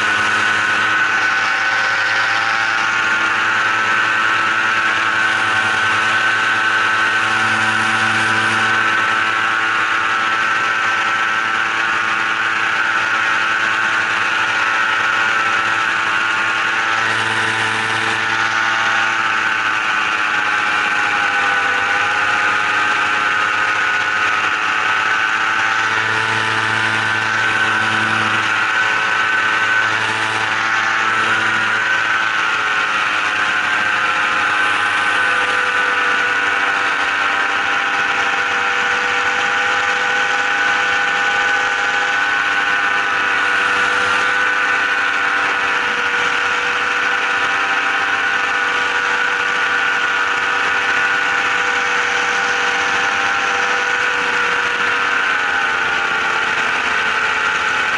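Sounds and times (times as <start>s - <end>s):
engine droning with whine: 0.0s - 57.9s.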